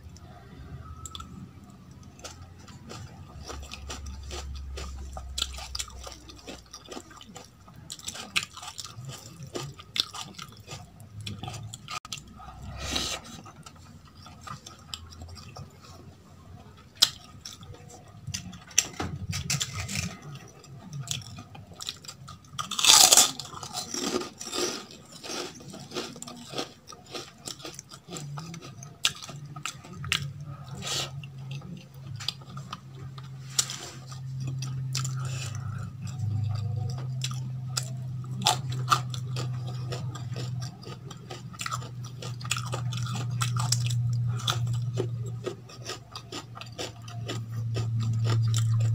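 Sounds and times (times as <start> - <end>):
chewing with crunches: 0.0 - 48.9.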